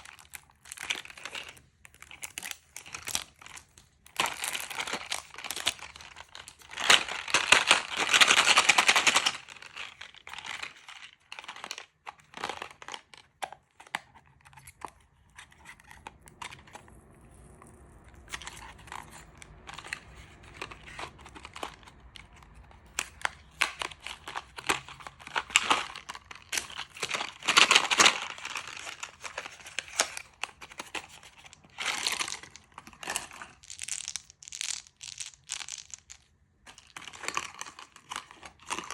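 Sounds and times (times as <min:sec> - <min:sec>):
candy wrappers crinkling and tearing: 0:00.0 - 0:38.9.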